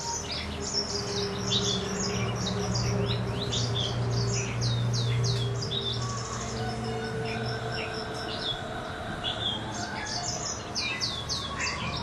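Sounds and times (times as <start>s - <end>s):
finch singing: 0.0s - 12.0s.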